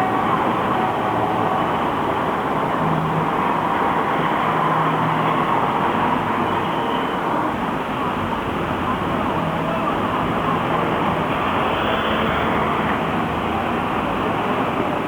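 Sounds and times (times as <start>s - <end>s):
trolleybus interior rumble: 0.0s - 15.0s.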